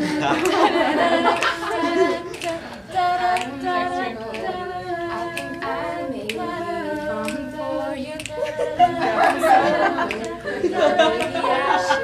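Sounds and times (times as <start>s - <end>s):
group singing a cappella: 0.0s - 12.0s
sharp clicks keeping time: 0.3s - 10.4s, 11.0s - 11.7s.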